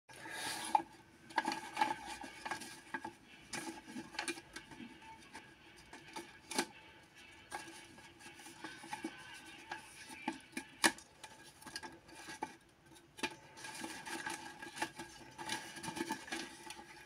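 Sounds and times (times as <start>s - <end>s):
paper rustling and crinkling: 0.3s - 17.0s.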